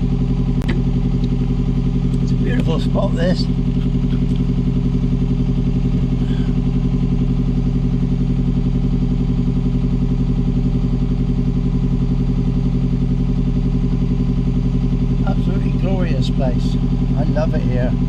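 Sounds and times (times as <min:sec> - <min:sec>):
diesel boat engine throbbing: 0:00.0 - 0:18.0.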